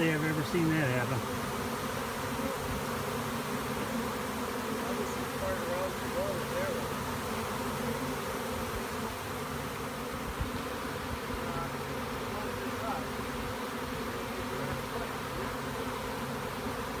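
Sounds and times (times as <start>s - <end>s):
swarm of bees humming: 0.0s - 17.0s.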